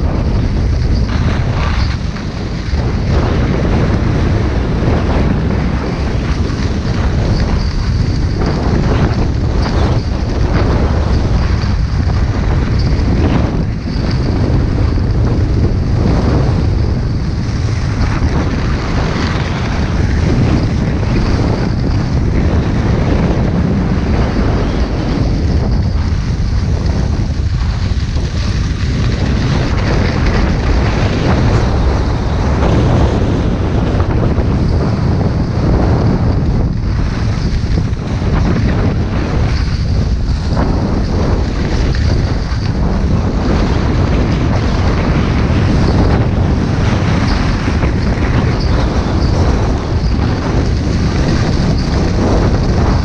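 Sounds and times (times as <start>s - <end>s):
skis sliding over snow: 0.0s - 53.0s
wind buffeting microphone: 0.0s - 53.0s.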